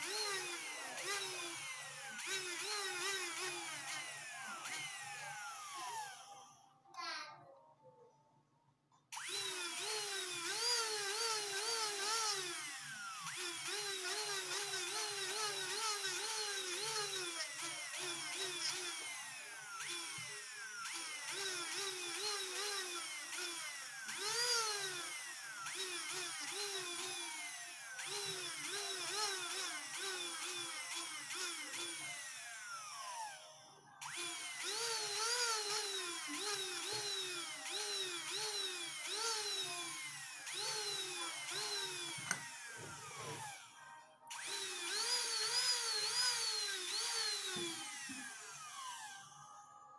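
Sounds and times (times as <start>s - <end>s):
rotary tool motor whine: 0.0s - 6.7s, 9.2s - 49.9s.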